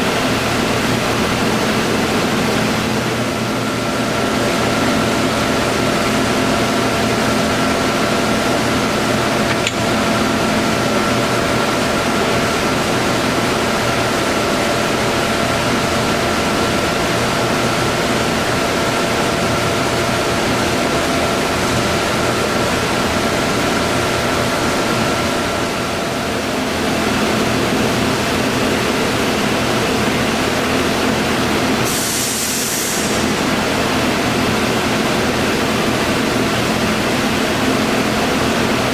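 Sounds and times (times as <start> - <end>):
lathe mechanical hum: 0.0 - 38.9.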